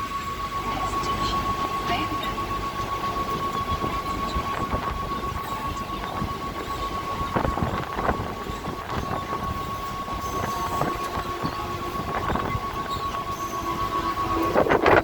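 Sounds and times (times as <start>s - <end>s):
constant high-pitched tone: 0.0s - 15.0s
train rumbling on track: 0.0s - 15.0s
wheels clacking: 0.0s - 15.0s.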